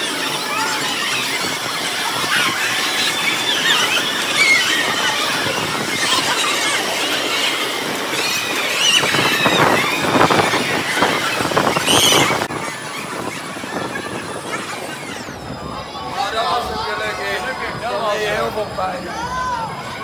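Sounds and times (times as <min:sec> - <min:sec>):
high wavering squeals: 0:00.0 - 0:20.0.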